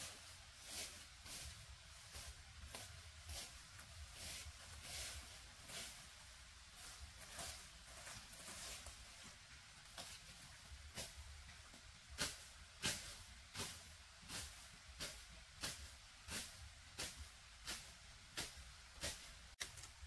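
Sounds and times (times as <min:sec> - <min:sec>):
blade swishing through grass: 0:00.0 - 0:09.1, 0:09.9 - 0:11.4, 0:12.1 - 0:19.6.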